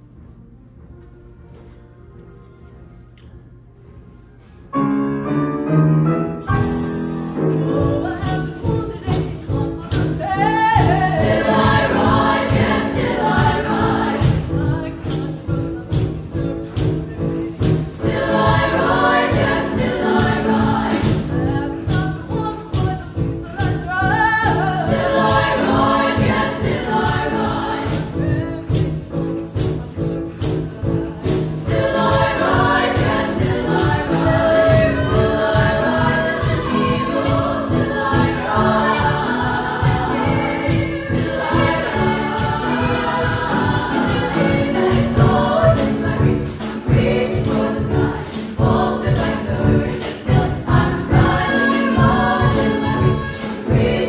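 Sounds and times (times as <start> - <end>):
women's choir singing: 7.4 - 16.8, 17.6 - 29.7, 31.3 - 54.0.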